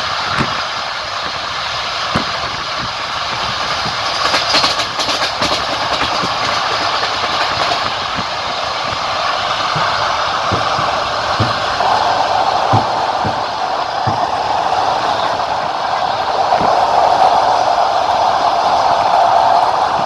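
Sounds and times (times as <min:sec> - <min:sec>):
train carriage rumbling: 0:00.0 - 0:20.0
wheels knocking over rail joints: 0:00.1 - 0:20.0
sharp clattering clicks: 0:02.0 - 0:18.9.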